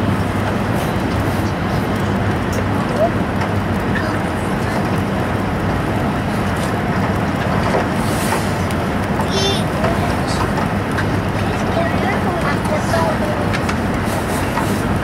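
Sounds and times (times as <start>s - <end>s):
train wheels and air rumble: 0.0s - 15.0s.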